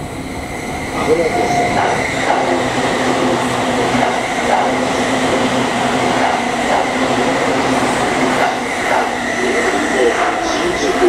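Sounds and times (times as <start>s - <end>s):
electric train running: 0.0s - 11.0s
train motor whine: 0.0s - 11.0s.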